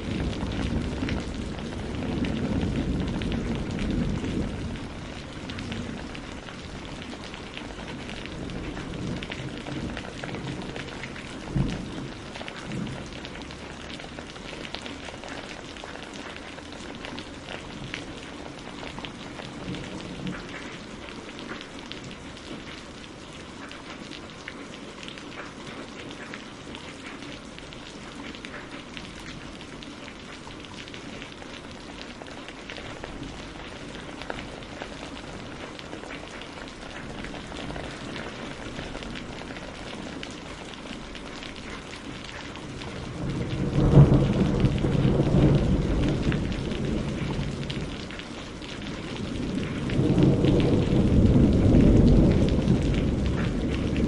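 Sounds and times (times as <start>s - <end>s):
low rumble of thunder: 0.0s - 24.5s, 25.3s - 54.0s
rain on a greenhouse roof: 0.0s - 54.0s.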